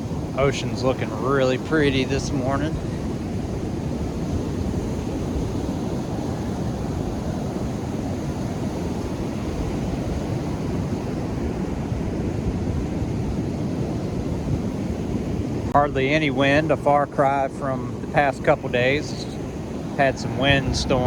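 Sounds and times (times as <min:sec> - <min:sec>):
surf breaking on beach: 0:00.0 - 0:21.0.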